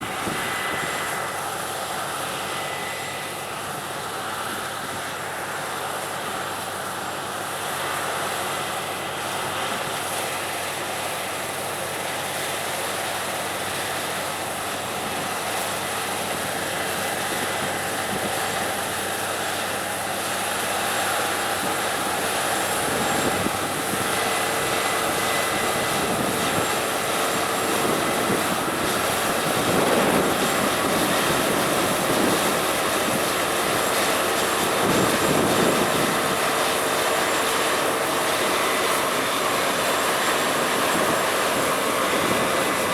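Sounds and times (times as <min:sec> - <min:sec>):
combine harvester drone: 0:00.0 - 0:42.9.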